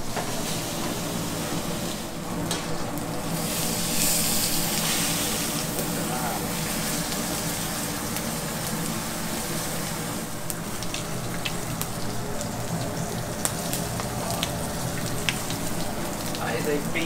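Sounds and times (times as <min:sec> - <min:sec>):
steak sizzling in a pan: 0:03.2 - 0:17.0.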